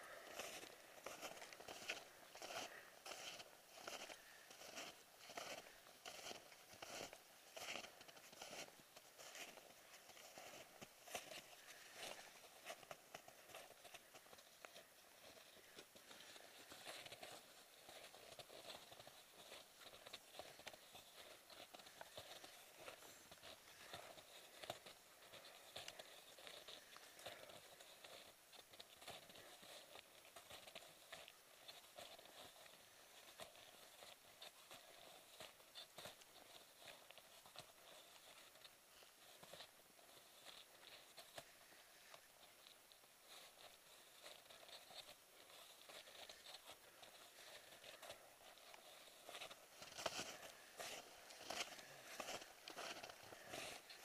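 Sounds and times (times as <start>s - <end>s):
snowshoes crunching in snow: 0.0s - 42.7s, 43.3s - 54.0s.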